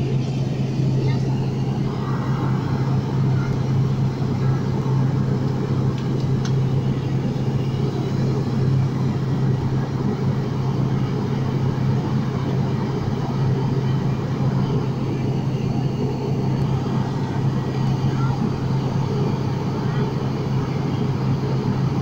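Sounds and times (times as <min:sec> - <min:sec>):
airliner cabin propeller hum: 0:00.0 - 0:22.0
engine and airflow noise: 0:00.0 - 0:22.0.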